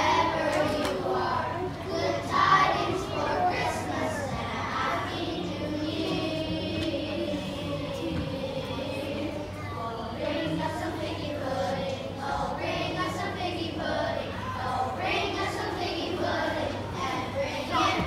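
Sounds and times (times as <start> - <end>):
children singing together: 0.0 - 18.0
steady low hum: 0.0 - 18.0.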